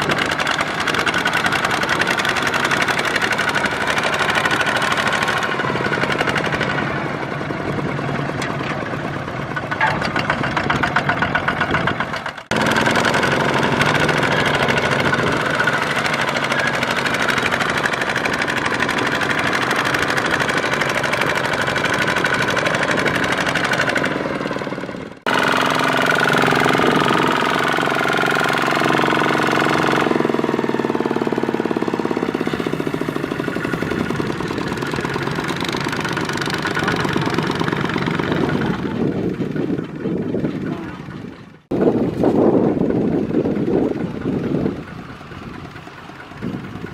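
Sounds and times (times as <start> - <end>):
farm machinery diesel engines: 0.0 - 46.9.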